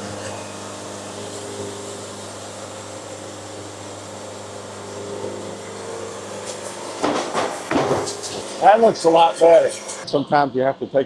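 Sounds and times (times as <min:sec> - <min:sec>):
sawmill machine hum: 0:00.0 - 0:11.0.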